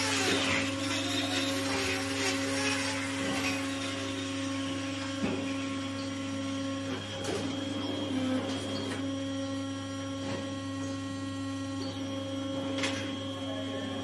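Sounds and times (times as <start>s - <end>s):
power tool trimming hoof: 0.0s - 13.2s
steady mechanical hum: 0.0s - 14.0s.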